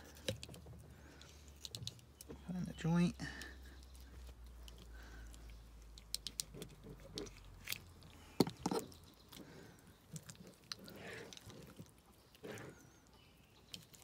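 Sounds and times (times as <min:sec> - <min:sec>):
wet clicks and cracks of joints: 0:00.0 - 0:02.6, 0:03.4 - 0:14.0.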